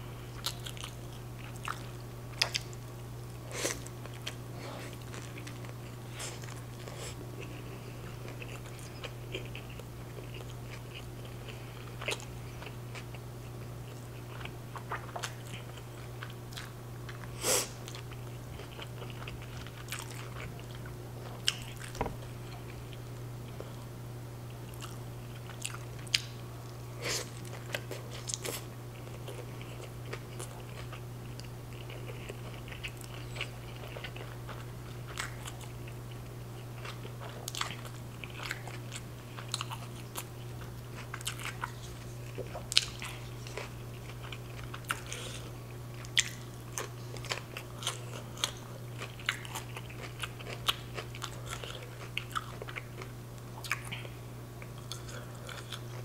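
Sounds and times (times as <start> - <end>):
steady low hum: 0.0 - 56.0
chewing with mouth clicks: 0.4 - 3.0, 3.6 - 23.9, 24.7 - 56.0.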